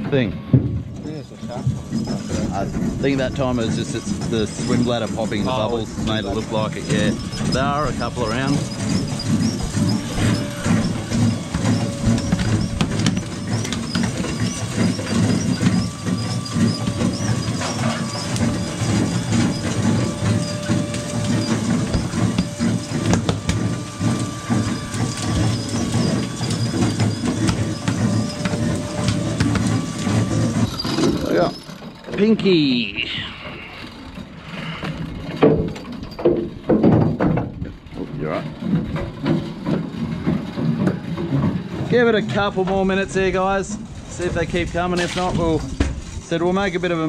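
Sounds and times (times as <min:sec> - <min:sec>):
boat diesel engine rumble: 0:00.0 - 0:47.0.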